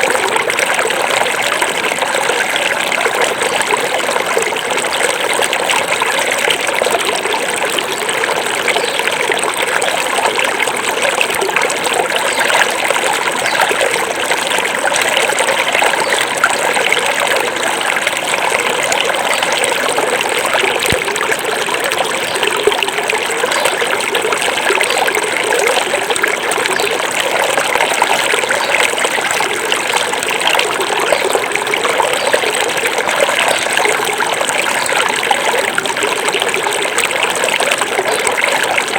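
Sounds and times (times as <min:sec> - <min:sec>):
river babbling over rocks: 0:00.0 - 0:38.9.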